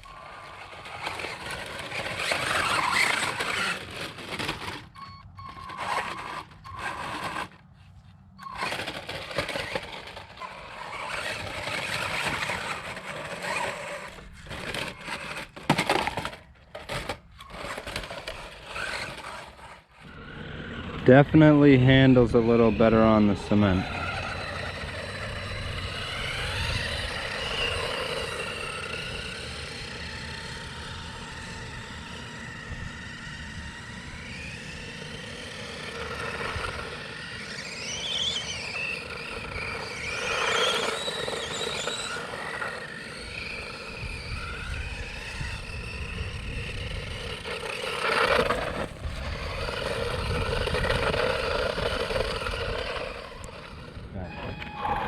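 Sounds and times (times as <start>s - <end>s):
electric motor whining: 0.0s - 7.6s, 8.4s - 55.0s.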